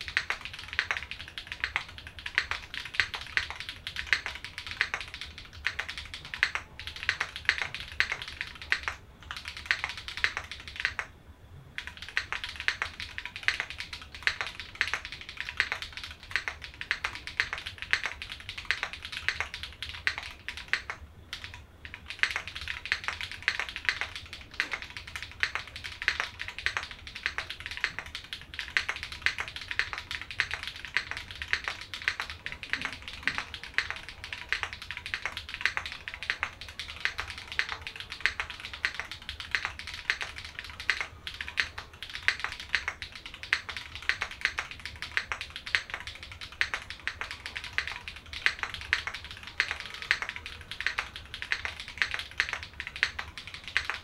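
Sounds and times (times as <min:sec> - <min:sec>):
fast typing on mechanical keyboard: 0:00.0 - 0:11.1, 0:11.8 - 0:54.0.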